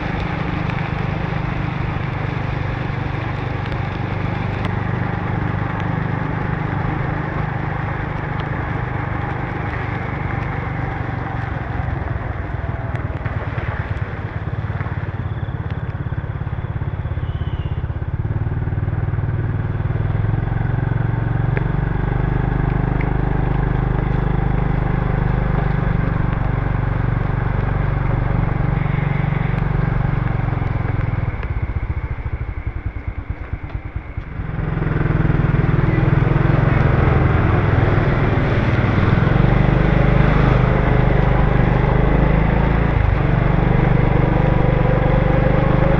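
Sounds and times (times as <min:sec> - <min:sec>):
motorbike engine running: 0:00.0 - 0:45.9
tyres on wet road: 0:00.0 - 0:45.9.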